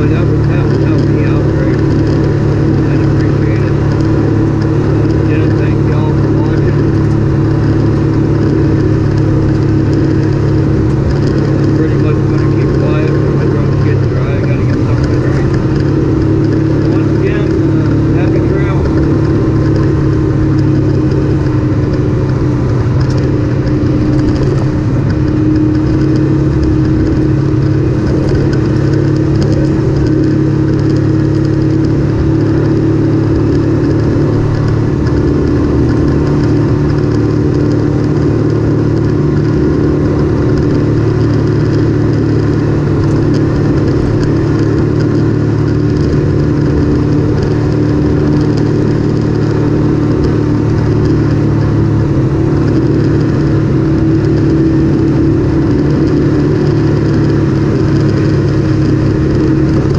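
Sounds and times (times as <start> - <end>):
off-road vehicle engine running: 0.0 - 59.9.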